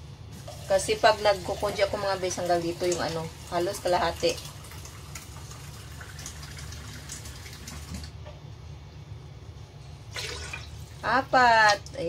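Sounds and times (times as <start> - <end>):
low steady hum: 0.0 - 12.0
faint running water: 0.3 - 8.2, 10.1 - 12.0.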